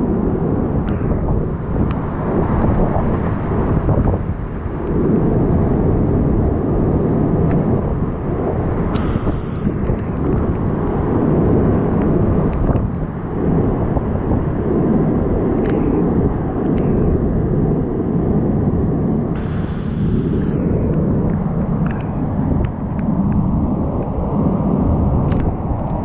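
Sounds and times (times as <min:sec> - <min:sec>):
storm wind with driven rain: 0:00.0 - 0:26.0.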